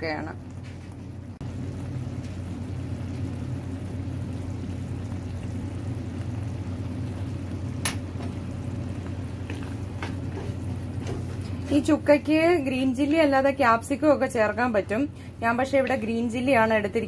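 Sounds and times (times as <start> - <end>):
steady low hum: 0.0 - 17.0
gravy simmering in pan: 0.3 - 17.0.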